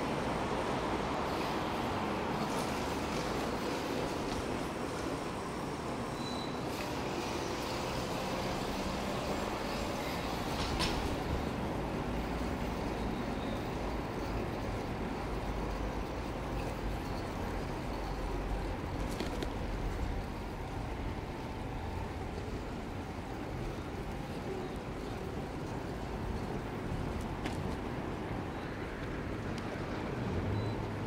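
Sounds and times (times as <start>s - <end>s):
road and wind noise: 0.0s - 31.0s.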